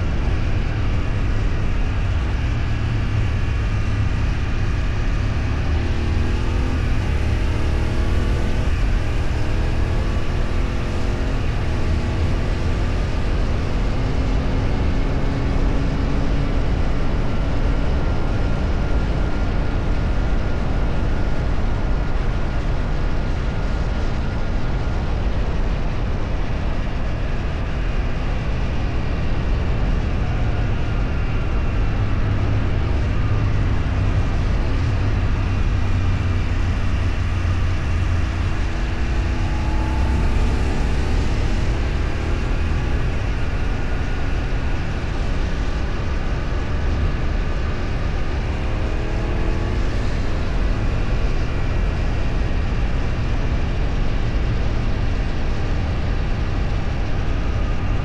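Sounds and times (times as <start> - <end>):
road and wind noise: 0.0 - 58.0
vehicle engine running: 0.0 - 58.0.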